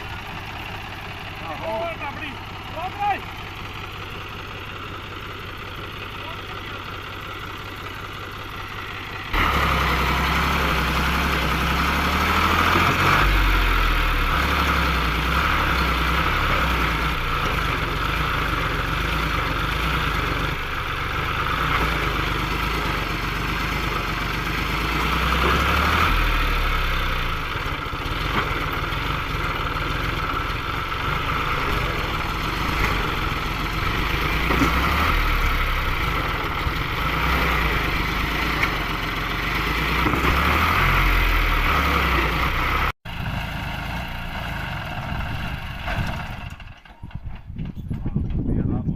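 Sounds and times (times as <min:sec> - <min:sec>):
tractor diesel engine running: 0:00.0 - 0:48.5.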